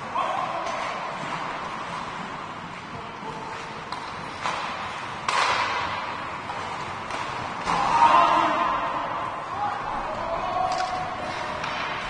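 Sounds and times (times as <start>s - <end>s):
noisy crowd and rink din: 0.0s - 12.0s.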